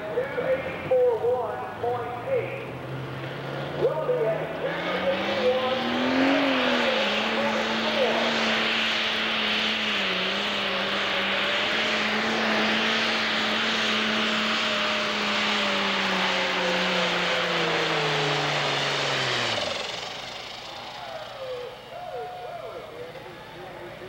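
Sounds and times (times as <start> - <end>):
diesel engine at full power: 0.0 - 24.0.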